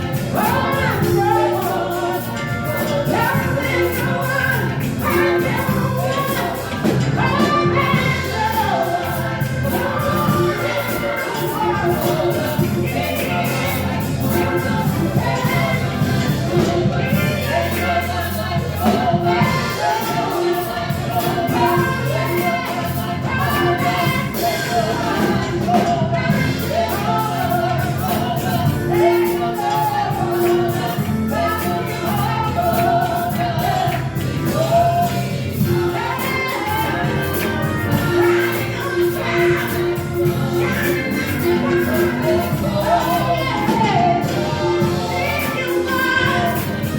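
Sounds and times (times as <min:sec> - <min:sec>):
group singing worship song: 0:00.0 - 0:46.9
instrumental backing: 0:00.0 - 0:46.9.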